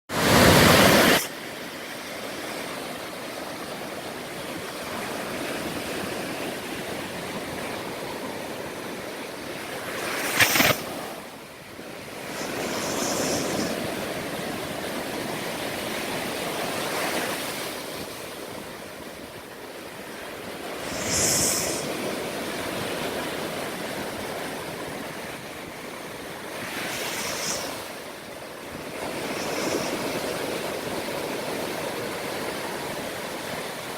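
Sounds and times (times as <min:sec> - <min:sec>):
ocean surf breaking on beach: 0:00.1 - 0:33.9.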